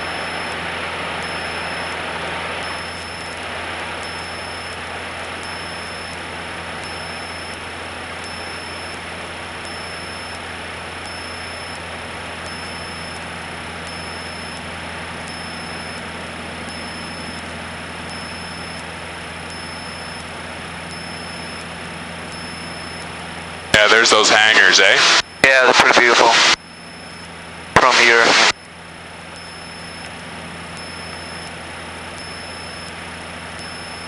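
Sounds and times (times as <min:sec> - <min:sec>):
airplane engine droning in cabin: 0:00.0 - 0:34.0.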